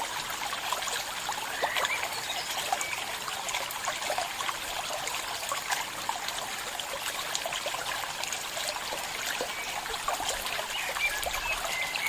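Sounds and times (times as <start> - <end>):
stream trickling and babbling: 0.0 - 12.0.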